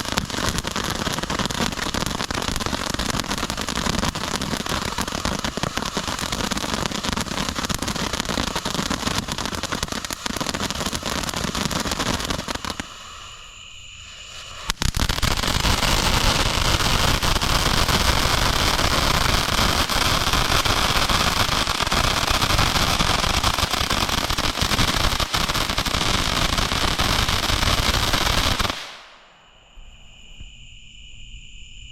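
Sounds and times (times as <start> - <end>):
firework fountain hissing and crackling: 0.0 - 29.3
crickets chirping: 0.0 - 31.9.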